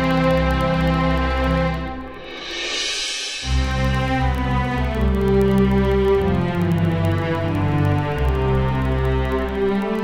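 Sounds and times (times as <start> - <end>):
slow held chords music: 0.0 - 10.0.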